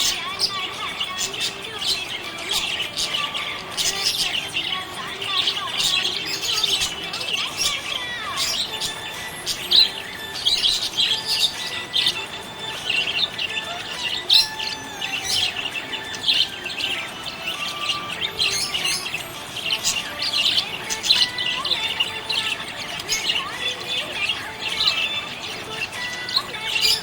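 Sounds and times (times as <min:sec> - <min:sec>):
budgerigars chirping: 0:00.0 - 0:27.0.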